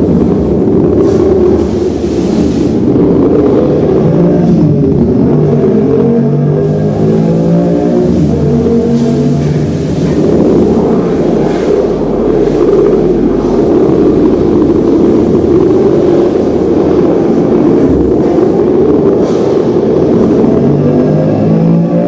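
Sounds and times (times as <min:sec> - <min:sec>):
car engine roaring: 0:00.0 - 0:22.0.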